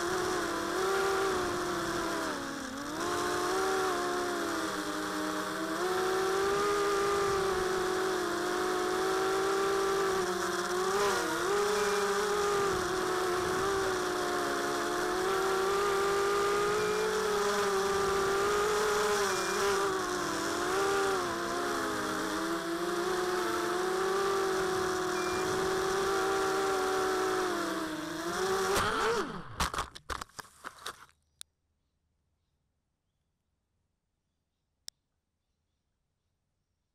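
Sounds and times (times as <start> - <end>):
drone motors whining: 0.0 - 29.8.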